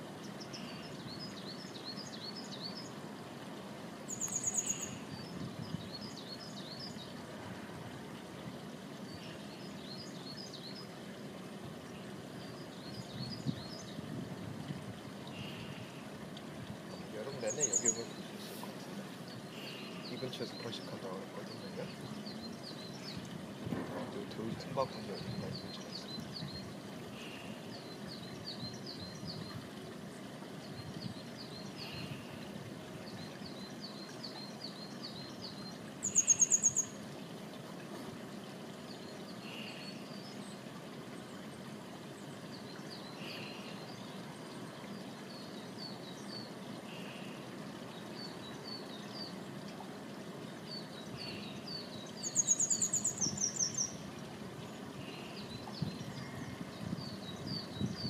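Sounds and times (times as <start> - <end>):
small birds singing: 0.0 - 58.0
steady low hiss: 0.0 - 58.0.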